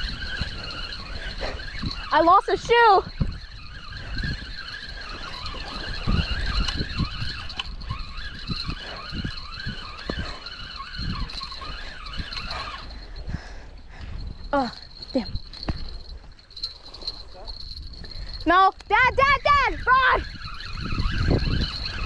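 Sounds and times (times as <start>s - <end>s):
fishing reel drag whining: 0.0s - 22.0s.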